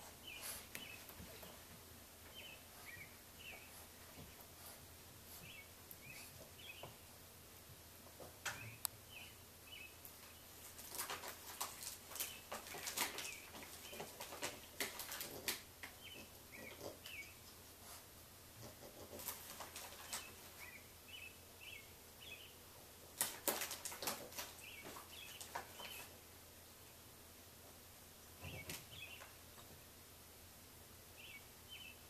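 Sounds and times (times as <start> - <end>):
small birds chirping: 0.0 - 7.3, 8.0 - 27.2, 28.3 - 30.0, 31.1 - 32.0.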